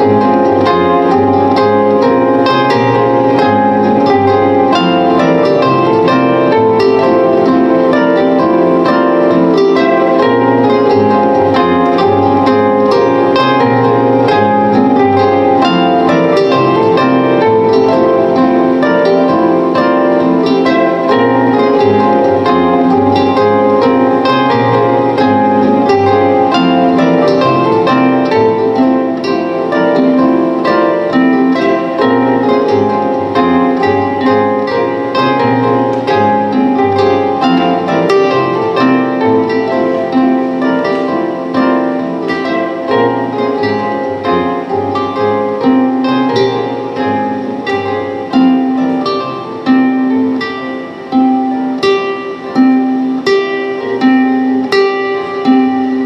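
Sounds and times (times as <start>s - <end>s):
plucked-string instrument playing: 0.0s - 56.0s.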